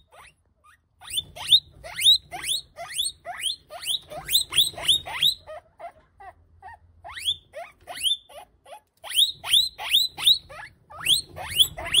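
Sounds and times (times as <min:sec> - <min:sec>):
guinea pig squealing: 0:00.0 - 0:12.0.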